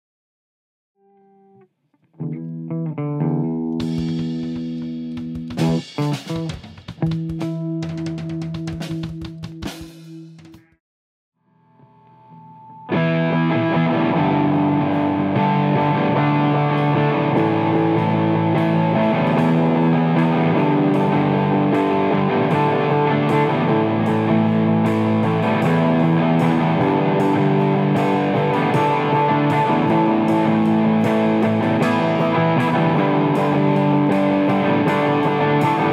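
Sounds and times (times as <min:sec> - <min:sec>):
distorted electric guitar: 0:01.0 - 0:10.8, 0:11.6 - 0:35.9.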